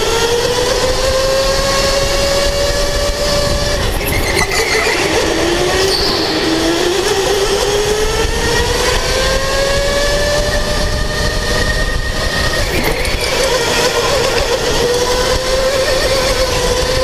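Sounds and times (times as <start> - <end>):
electric go-kart motor whining: 0.0 - 17.0
loud steady rumble: 0.0 - 17.0.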